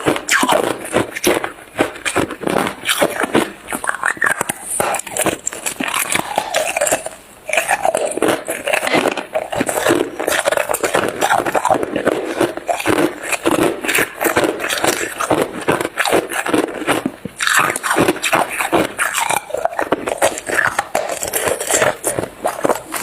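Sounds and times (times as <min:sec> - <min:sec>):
ice crunched and chewed: 0:00.0 - 0:23.0.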